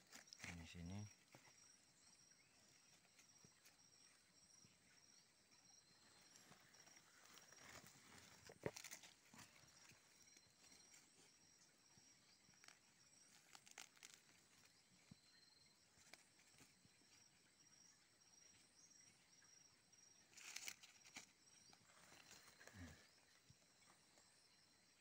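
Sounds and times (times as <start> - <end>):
rustling soil and dry leaves: 0.0 - 25.0.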